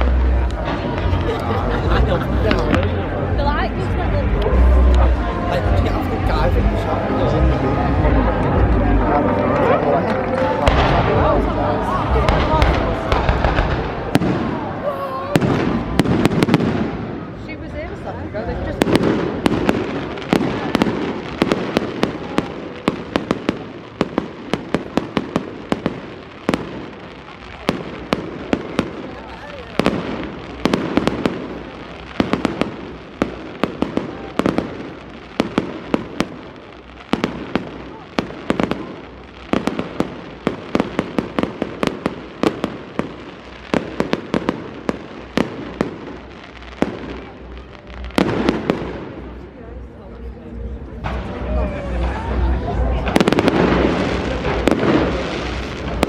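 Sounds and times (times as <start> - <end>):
fireworks bangs and crackling: 0.0 - 56.0
fireworks rumble: 0.0 - 56.0.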